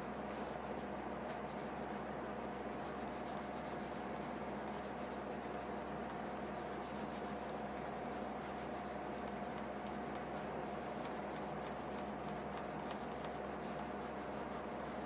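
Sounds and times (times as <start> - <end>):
constant background hum: 0.0 - 15.0.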